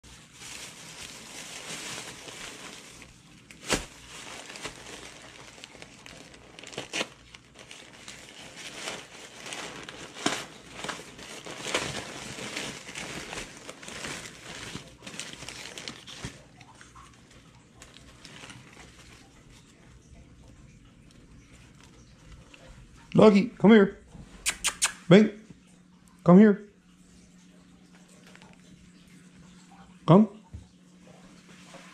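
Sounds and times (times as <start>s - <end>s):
plastic bag and paper crinkling: 0.0s - 23.1s, 27.1s - 30.0s.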